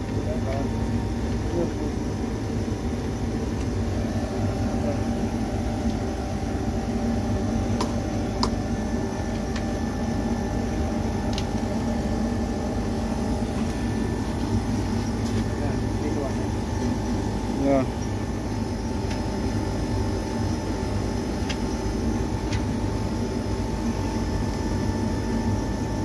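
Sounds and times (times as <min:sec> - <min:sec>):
air conditioner unit humming: 0:00.0 - 0:26.0.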